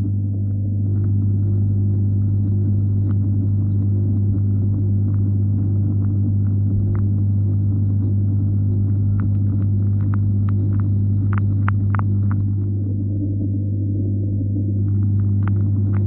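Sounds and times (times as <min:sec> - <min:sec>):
aquarium equipment hum underwater: 0:00.0 - 0:16.0.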